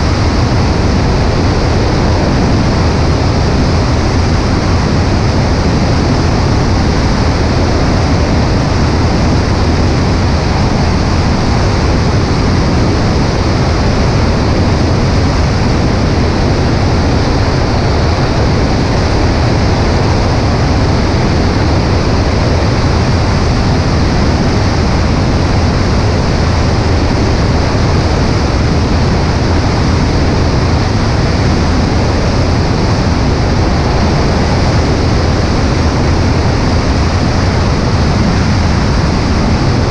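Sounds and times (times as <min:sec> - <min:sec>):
airplane engine and propeller: 0:00.0 - 0:39.9
wind rushing over camera: 0:00.0 - 0:39.9.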